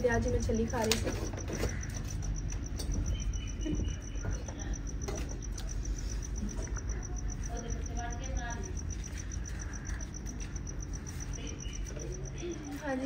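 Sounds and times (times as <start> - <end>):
insect chirping: 0.0 - 13.0
low background rumble: 0.0 - 13.0.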